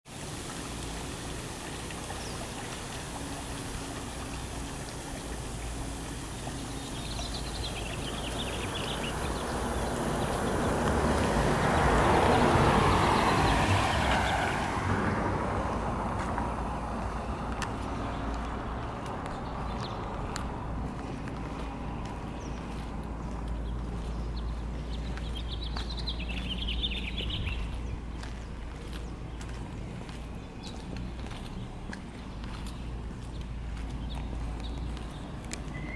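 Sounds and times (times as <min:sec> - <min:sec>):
water running over pavement: 0:00.0 - 0:35.9
lawn sprinklers spraying: 0:00.1 - 0:35.9.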